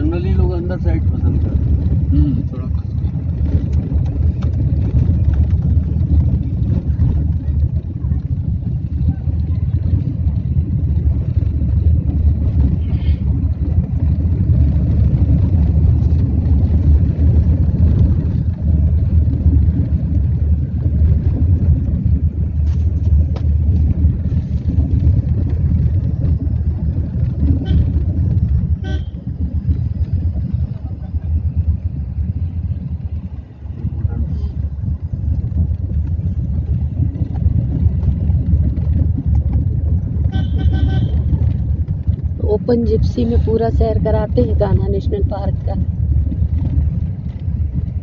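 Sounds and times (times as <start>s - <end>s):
vehicle rumbling on road: 0.0s - 48.0s
wind noise on microphone: 0.0s - 48.0s.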